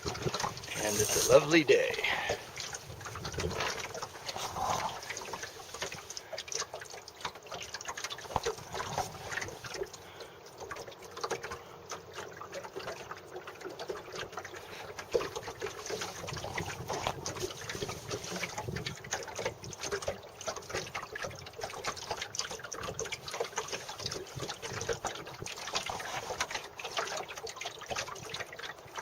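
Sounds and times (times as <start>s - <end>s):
water lapping against hull: 0.0s - 29.0s.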